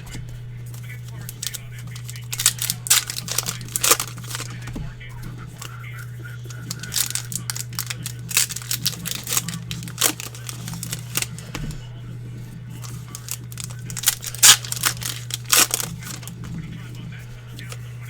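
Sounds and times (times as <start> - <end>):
foil wrappers crinkling and tearing: 0.0 - 11.8, 12.4 - 18.0
steady low hum: 0.0 - 18.0.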